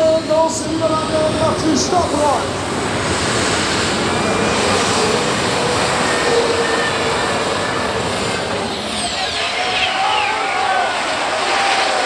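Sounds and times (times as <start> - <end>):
tractor engine roaring: 0.0 - 12.0.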